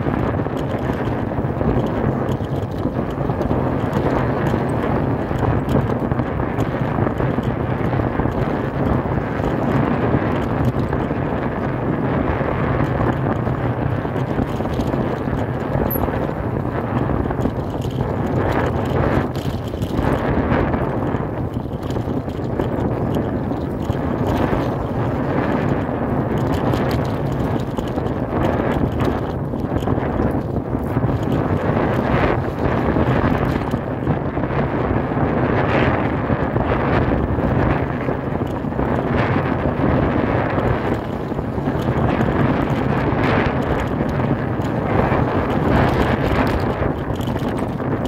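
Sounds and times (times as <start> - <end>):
bike tyres rattling over dirt: 0.0 - 48.0
wind buffeting microphone: 0.0 - 48.0.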